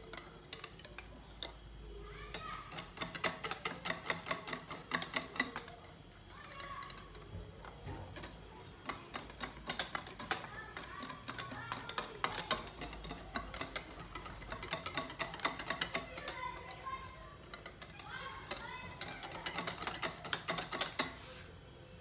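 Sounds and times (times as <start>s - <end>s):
whisk clicking against glass bowl: 0.0s - 21.3s.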